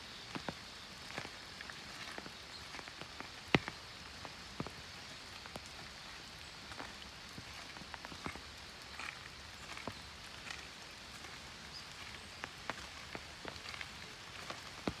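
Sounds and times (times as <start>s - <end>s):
light rain patter: 0.0s - 15.0s
drops ticking on leaves: 0.1s - 15.0s.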